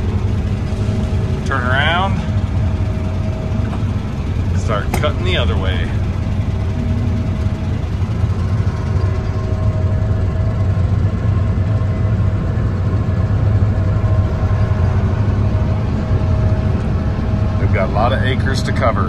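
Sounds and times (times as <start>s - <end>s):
combine harvester engine hum: 0.0s - 19.0s
faint steady whine: 0.0s - 19.0s.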